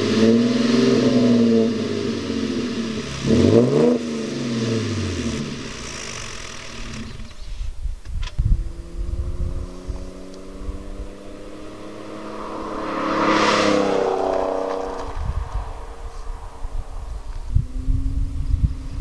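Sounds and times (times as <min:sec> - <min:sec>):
car exhaust rumbling under throttle: 0:00.0 - 0:07.8, 0:08.4 - 0:19.0.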